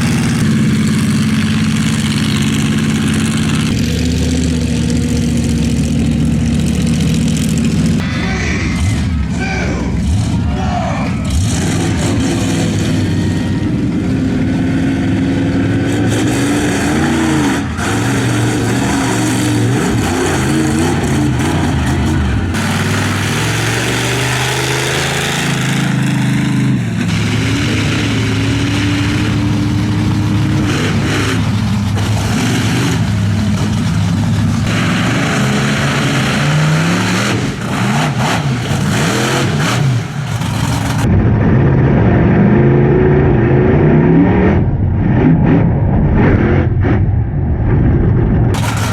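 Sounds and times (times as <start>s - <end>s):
monster truck engine revving: 0.0s - 48.9s.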